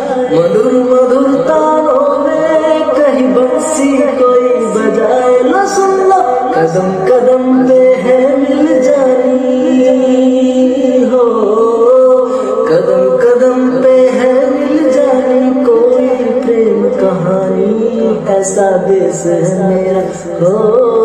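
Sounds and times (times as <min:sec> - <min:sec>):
song with singing voice: 0:00.0 - 0:21.0.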